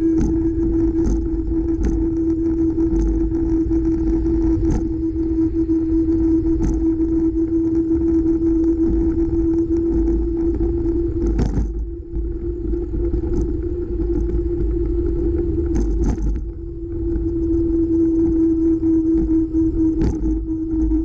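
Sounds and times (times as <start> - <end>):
steady hum: 0.0 - 21.0
wind and road rumble: 0.0 - 21.0.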